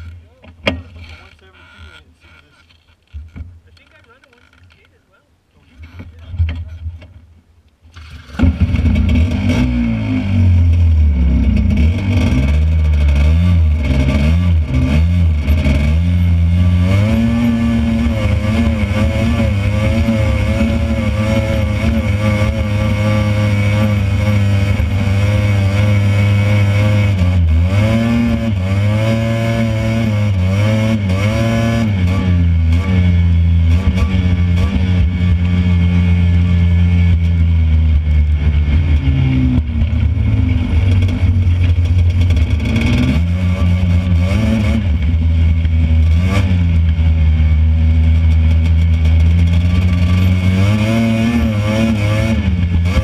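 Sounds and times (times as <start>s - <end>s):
buggy engine running: 0.0s - 5.0s, 7.8s - 53.0s.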